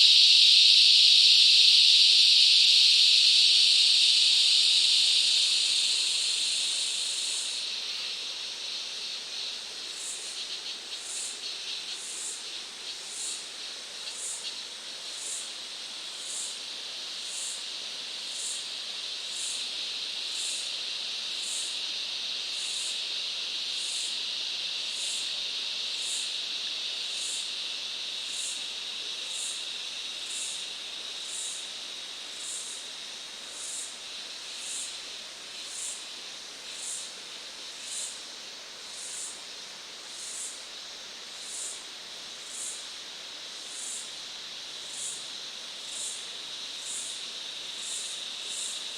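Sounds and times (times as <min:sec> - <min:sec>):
insect chorus hissing drone: 0:00.0 - 0:48.9.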